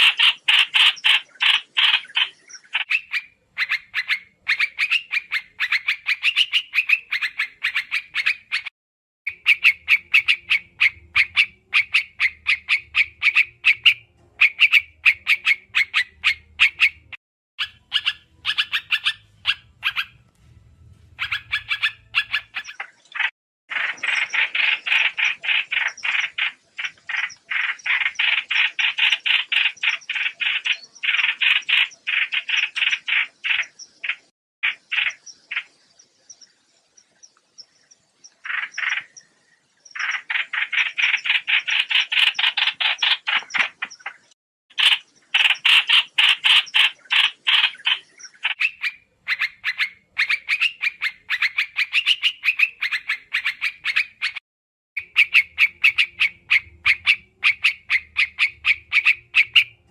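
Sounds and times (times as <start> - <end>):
bird chattering call: 0.0 - 8.7, 9.3 - 20.2, 21.2 - 35.7, 38.3 - 39.2, 39.9 - 54.4, 55.0 - 59.9.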